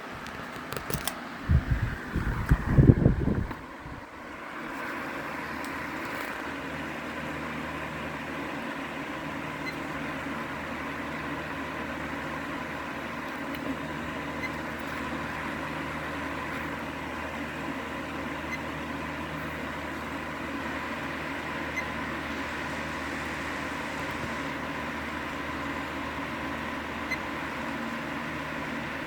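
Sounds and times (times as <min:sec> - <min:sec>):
faint fan whine: 0:00.0 - 0:29.0
fan air rushing: 0:00.0 - 0:29.0
fan motor hum: 0:00.0 - 0:29.0.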